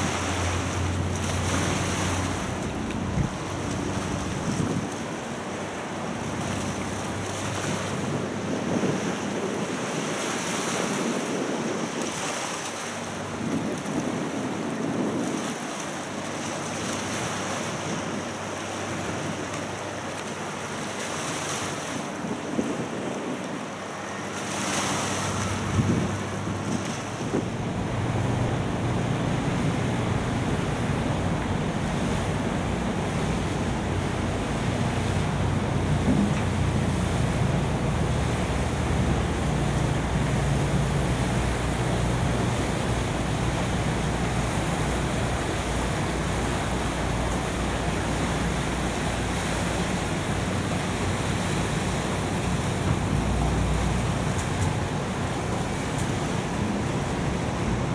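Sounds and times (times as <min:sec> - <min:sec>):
harbour water washing: 0:00.0 - 0:57.9
low boat engine drone: 0:00.0 - 0:57.9
wind gusting on microphone: 0:00.0 - 0:57.9.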